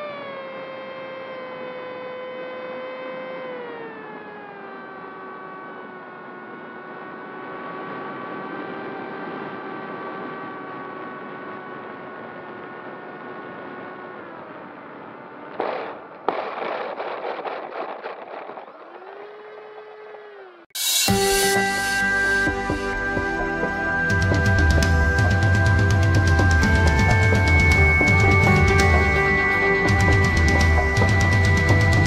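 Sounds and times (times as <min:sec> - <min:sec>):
electric motor and propeller whining: 0:00.0 - 0:32.0.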